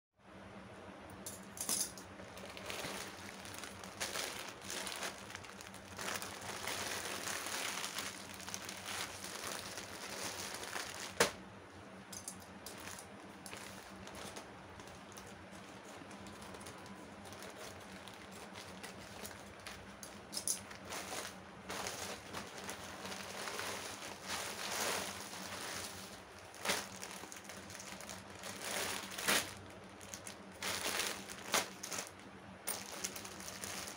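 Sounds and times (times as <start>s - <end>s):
faint low hum: 0.2s - 33.9s
plastic mailer bag crinkling: 2.2s - 11.4s, 12.4s - 33.9s
plastic packet rustling: 2.2s - 11.4s, 12.2s - 33.9s.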